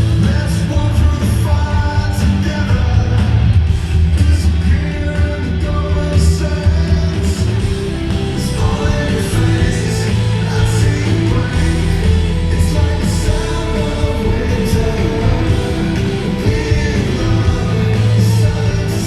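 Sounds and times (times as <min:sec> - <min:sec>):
drums with cymbal crashes: 0:00.0 - 0:19.0
electric guitar and bass: 0:00.0 - 0:19.0
person singing lead vocal: 0:00.0 - 0:19.0.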